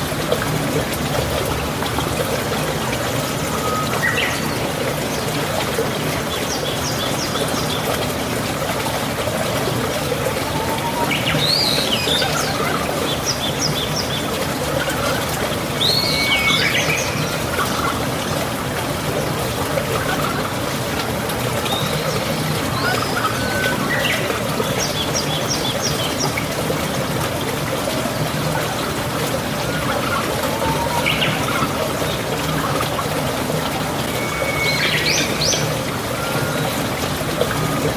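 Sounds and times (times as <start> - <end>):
running water: 0.0 - 37.9.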